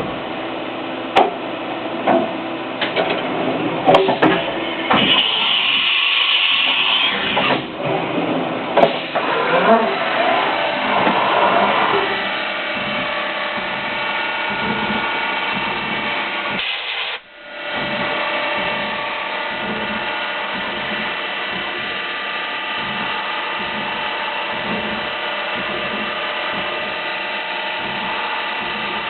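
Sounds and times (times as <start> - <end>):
milling machine whine: 0.0 - 29.0.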